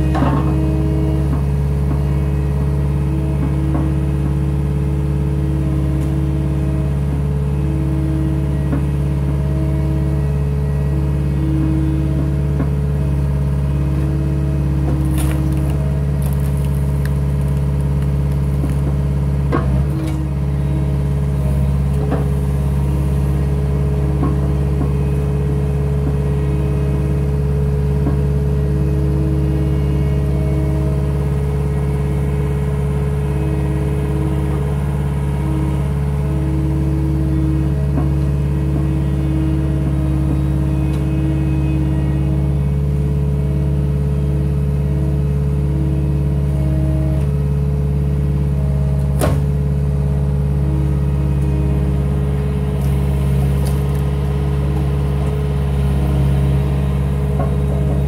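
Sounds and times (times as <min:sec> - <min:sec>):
diesel engine running: 0:00.0 - 0:58.0
higher tone over engine hum: 0:00.0 - 0:58.0.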